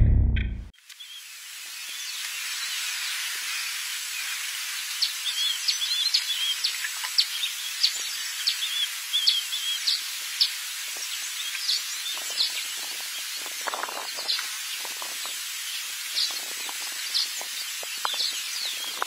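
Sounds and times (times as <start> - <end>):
birds chirping and twittering: 0.8 - 19.0
steady high hiss: 0.8 - 19.0.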